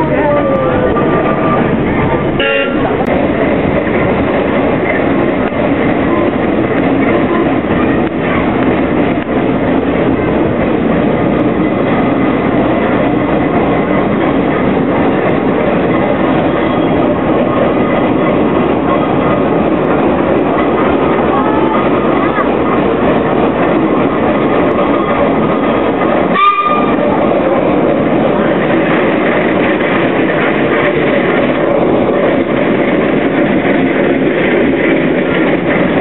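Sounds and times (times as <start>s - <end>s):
steam road roller running: 0.0s - 36.0s.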